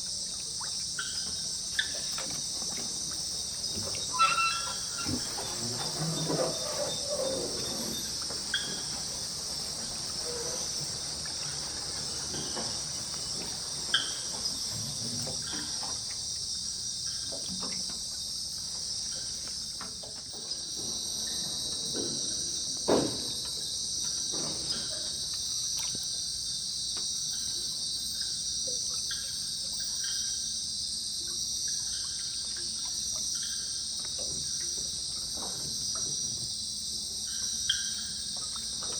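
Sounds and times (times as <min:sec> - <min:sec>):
night insects chirping: 0:00.0 - 0:38.9.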